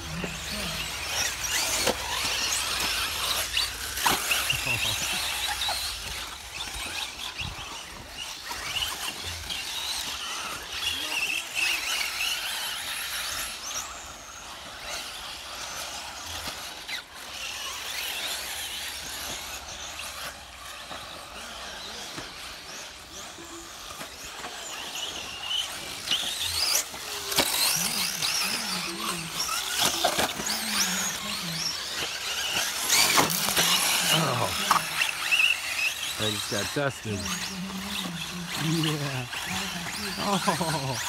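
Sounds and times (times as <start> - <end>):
faint voices: 0.0 - 41.0
rc car motors whining: 0.0 - 41.0.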